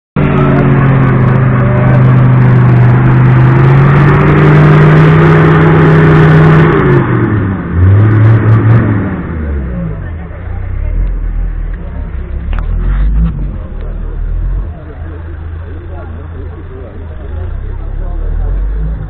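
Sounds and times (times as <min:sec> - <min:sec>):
off-road vehicle engine revving: 0:00.2 - 0:19.0.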